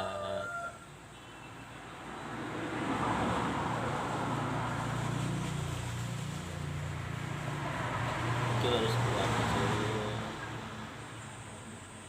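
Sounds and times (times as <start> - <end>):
background noise: 0.0 - 12.0
vehicle engine humming: 0.9 - 12.0.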